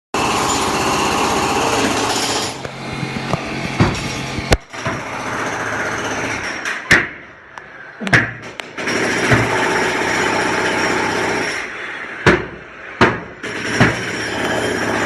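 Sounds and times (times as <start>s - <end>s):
rapid mechanical hammering: 0.2s - 7.2s, 8.1s - 11.6s, 12.2s - 15.0s.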